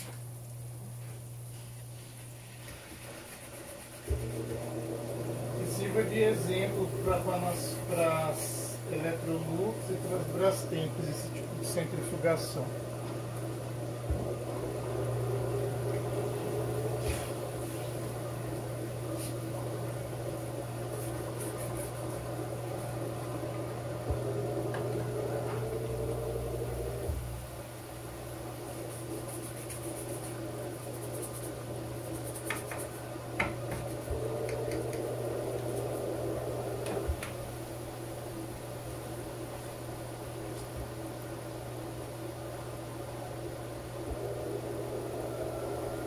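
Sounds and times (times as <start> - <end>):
washing machine spin cycle whine: 0.0 - 46.0.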